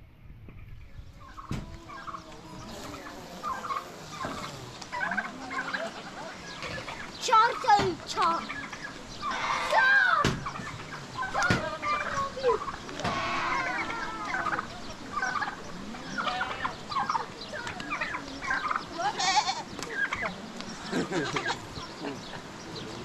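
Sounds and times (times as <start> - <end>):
poultry clucking: 1.1 - 23.0.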